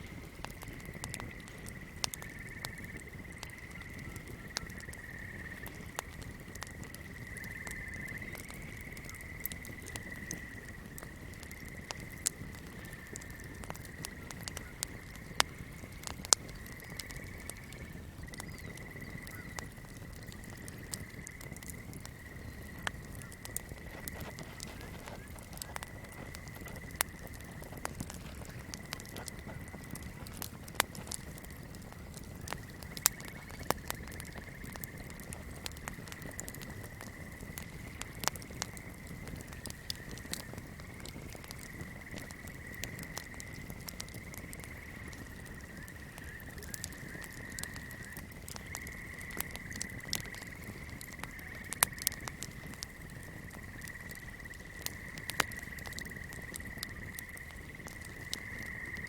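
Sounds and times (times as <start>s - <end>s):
candle flame crackling: 0.0s - 59.0s.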